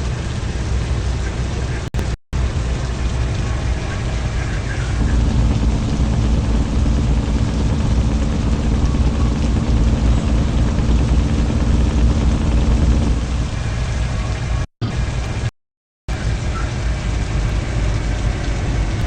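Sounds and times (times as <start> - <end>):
steady hum: 0.0 - 15.5
truck engine rumbling: 0.0 - 15.5, 16.1 - 19.0.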